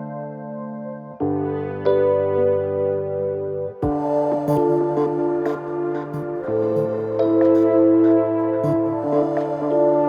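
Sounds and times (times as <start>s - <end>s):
ambient synth chords: 0.0s - 10.0s.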